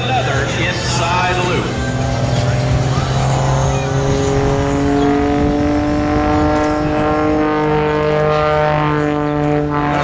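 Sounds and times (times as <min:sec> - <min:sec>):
propeller plane engine droning: 0:00.0 - 0:10.0.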